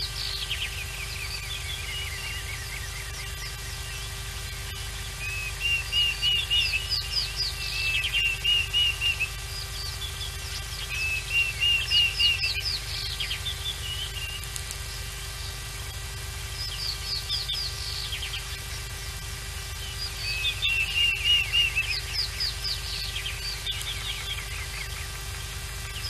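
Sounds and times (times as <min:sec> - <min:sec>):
bird song whistled notes: 0:00.0 - 0:19.0, 0:19.6 - 0:26.0
steady low hum: 0:00.0 - 0:26.0.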